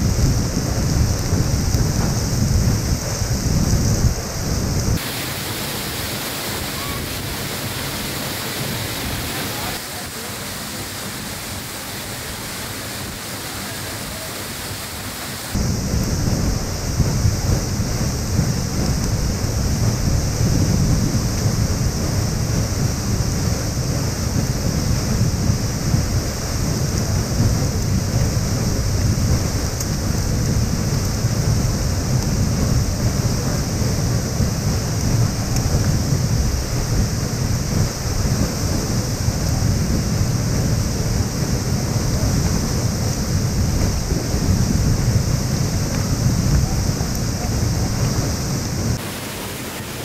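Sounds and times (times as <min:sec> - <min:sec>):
heavy low rumble: 0:00.0 - 0:05.6, 0:15.5 - 0:50.0
waterfall rushing: 0:00.0 - 0:50.0.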